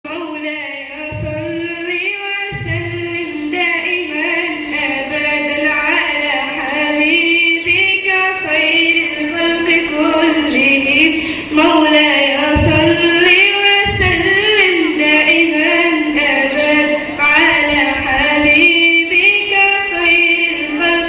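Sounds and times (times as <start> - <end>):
girl singing: 0.1 - 21.0.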